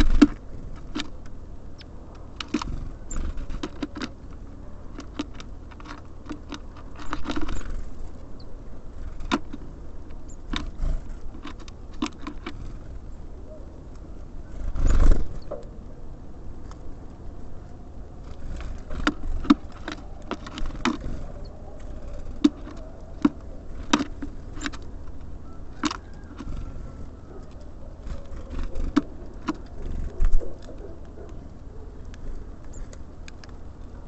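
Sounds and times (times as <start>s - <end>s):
birds pecking and hopping: 0.0s - 34.0s
low steady rumble: 0.0s - 34.0s.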